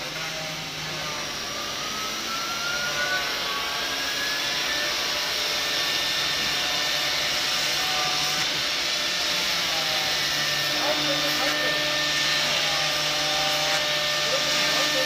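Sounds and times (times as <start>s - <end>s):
electric sander on wood: 0.0s - 15.0s.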